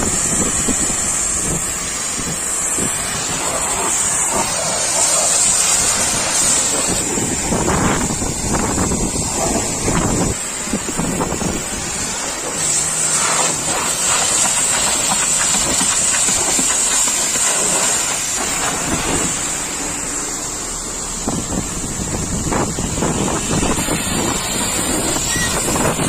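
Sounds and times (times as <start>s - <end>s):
pressure washer spraying: 0.0s - 26.0s.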